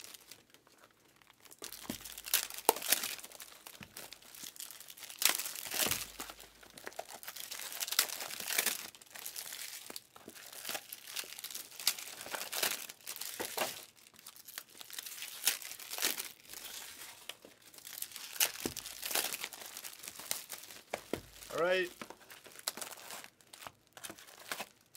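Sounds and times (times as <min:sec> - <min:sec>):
wrappers crinkling and tearing: 0:00.0 - 0:24.9.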